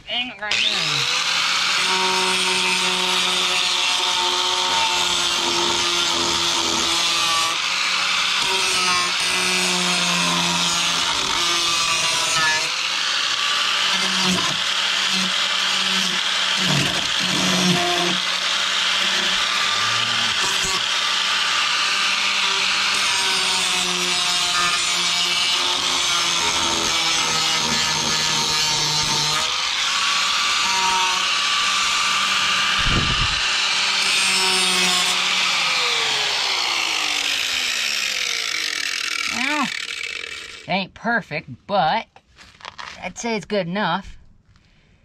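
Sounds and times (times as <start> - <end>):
angle grinder grinding steel: 0.4 - 40.8.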